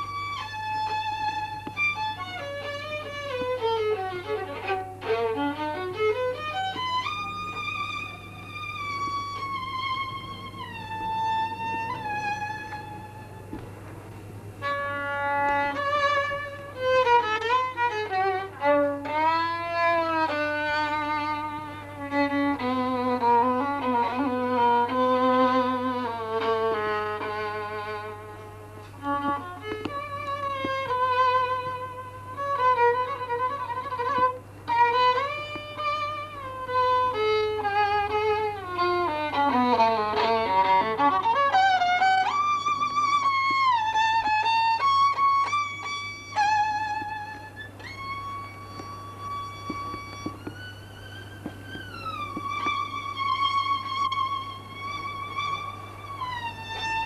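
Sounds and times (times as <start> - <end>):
slow violin melody: 0.0 - 57.0
steady low hum: 0.0 - 57.0.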